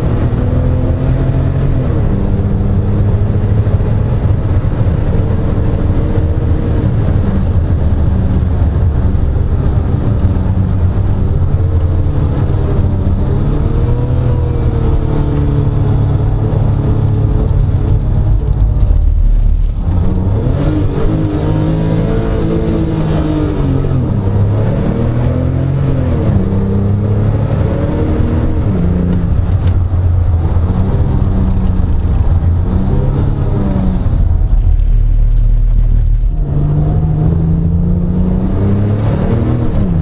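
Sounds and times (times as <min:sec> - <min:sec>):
car engine accelerating and shifting: 0:00.0 - 0:40.0.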